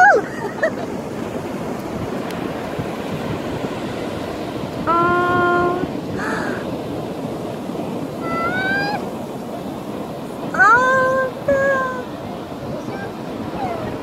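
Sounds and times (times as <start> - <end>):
ocean surf washing up beach: 0.0 - 14.0.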